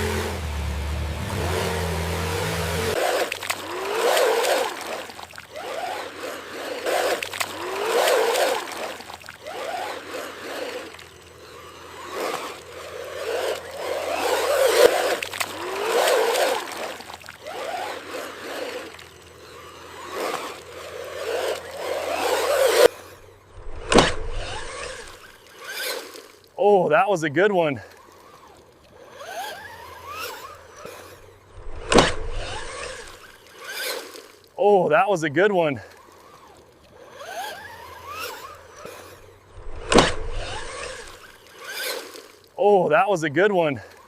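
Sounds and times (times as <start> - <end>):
toy truck motor whining: 0.0 - 26.6, 27.7 - 34.6, 35.7 - 42.6
tyres splashing through mud: 0.0 - 44.0.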